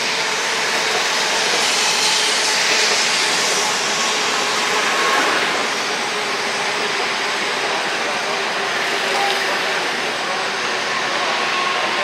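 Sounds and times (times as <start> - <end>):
train rushing hiss: 0.0 - 12.0.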